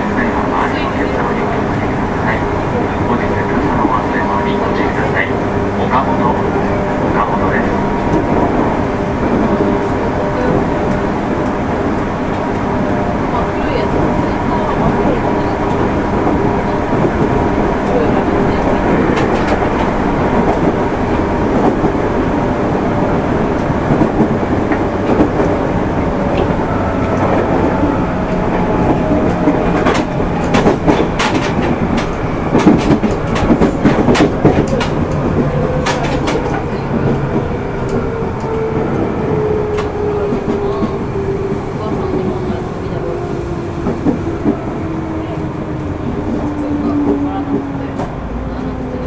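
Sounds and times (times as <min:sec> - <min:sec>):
train interior rumble: 0:00.0 - 0:49.0.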